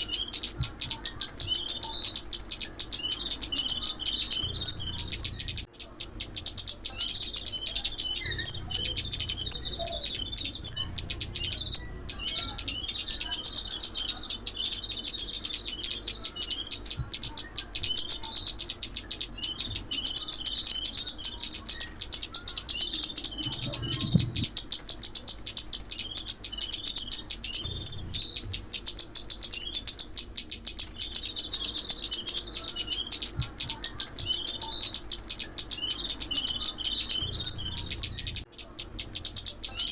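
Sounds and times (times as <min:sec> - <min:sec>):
sunbird twittering chirps: 0:00.0 - 0:39.9.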